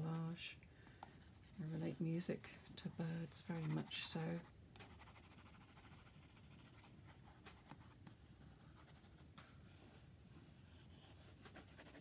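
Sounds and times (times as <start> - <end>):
pencil scratching on paper: 1.2 - 12.0.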